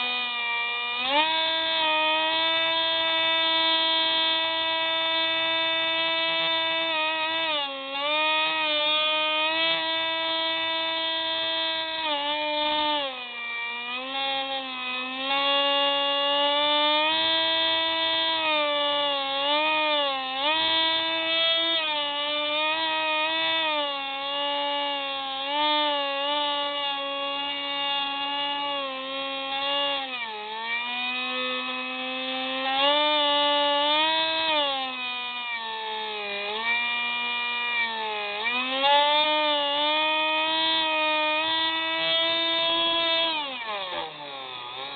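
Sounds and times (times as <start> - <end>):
model plane motor whine: 0.0 - 44.9.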